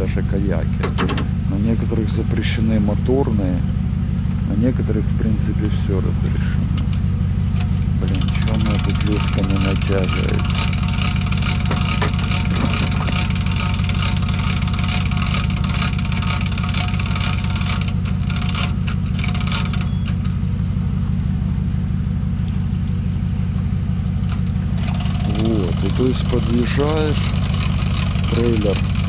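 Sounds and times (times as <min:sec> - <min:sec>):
truck engine idling: 0:00.0 - 0:29.0.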